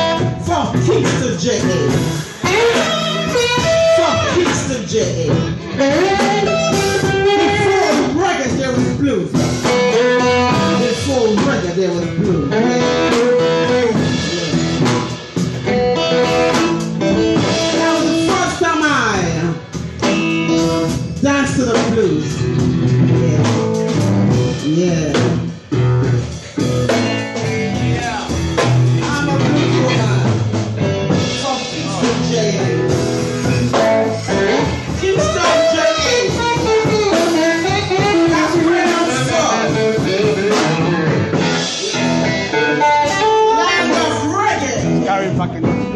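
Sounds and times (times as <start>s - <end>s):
drum kit: 0.0s - 45.9s
electric guitar bending notes: 0.0s - 45.9s
live blues band playing: 0.0s - 45.9s.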